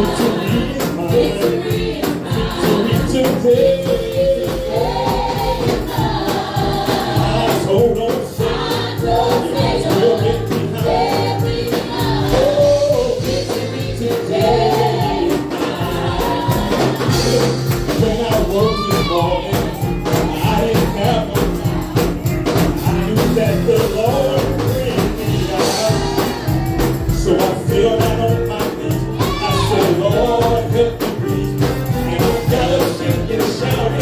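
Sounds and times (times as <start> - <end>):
band with steady beat: 0.0 - 34.0
gospel song with group singing: 0.0 - 34.0.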